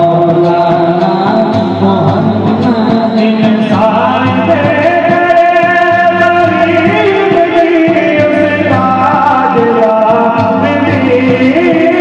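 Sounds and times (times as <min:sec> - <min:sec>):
drum beating steadily: 0:00.0 - 0:12.0
men singing long held notes: 0:00.0 - 0:12.0.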